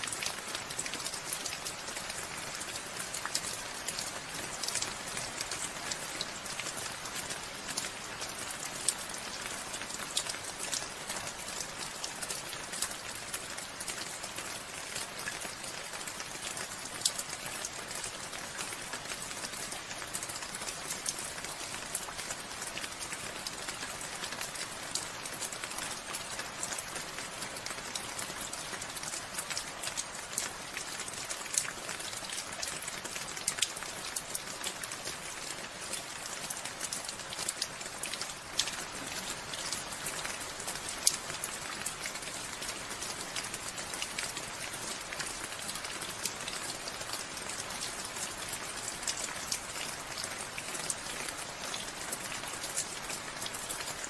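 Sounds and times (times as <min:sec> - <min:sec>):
raindrops ticking on a surface: 0:00.0 - 0:54.0
steady rain hiss: 0:00.0 - 0:54.0.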